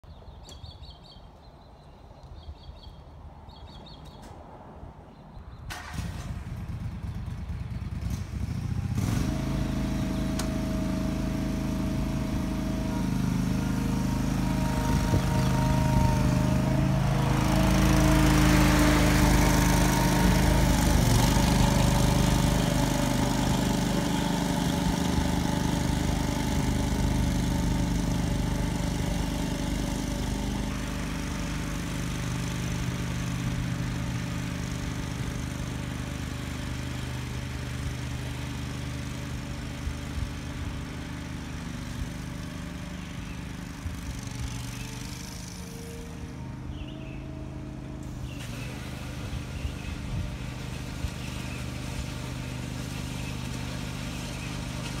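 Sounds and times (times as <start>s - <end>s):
mower engine running: 5.7s - 55.0s.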